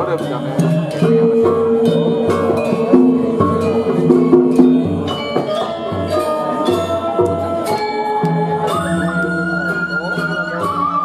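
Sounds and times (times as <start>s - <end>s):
gamelan playing dance music: 0.0s - 11.0s.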